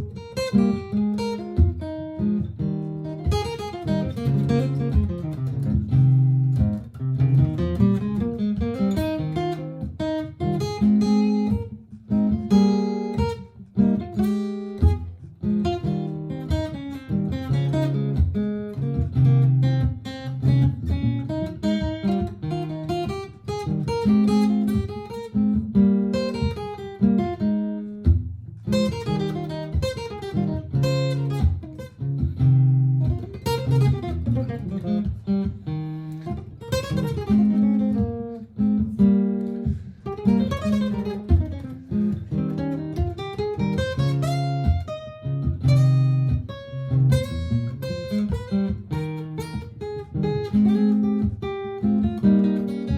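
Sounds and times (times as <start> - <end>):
acoustic guitar playing: 0.0 - 52.9.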